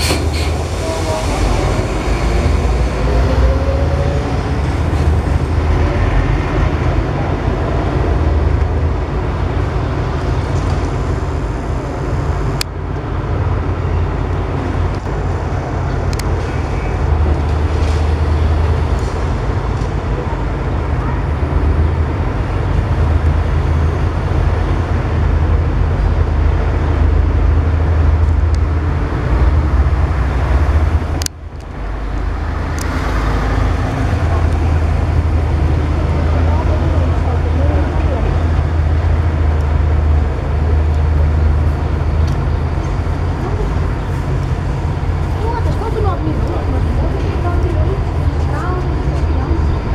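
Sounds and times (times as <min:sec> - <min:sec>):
low engine rumble: 0:00.0 - 0:49.9
street traffic: 0:00.0 - 0:49.9.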